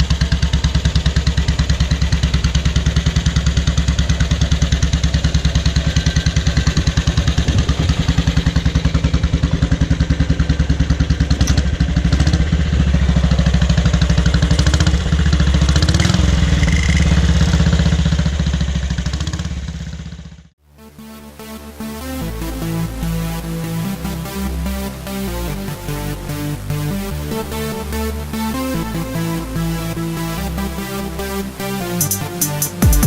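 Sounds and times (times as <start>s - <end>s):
motorcycle engine idling and revving: 0.0s - 20.6s, 21.6s - 33.0s.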